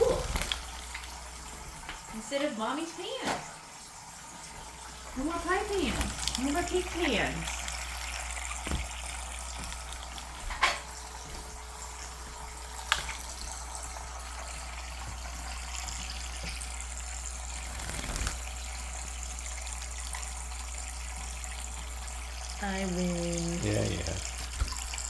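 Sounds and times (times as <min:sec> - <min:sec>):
tap water running into bird bath: 0:00.0 - 0:25.0.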